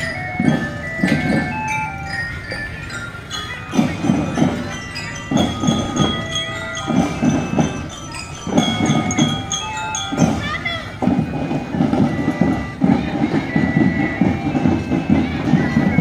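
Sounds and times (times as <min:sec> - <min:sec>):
bell lyra melody: 0:00.0 - 0:16.0
marching drum beats: 0:00.0 - 0:16.0.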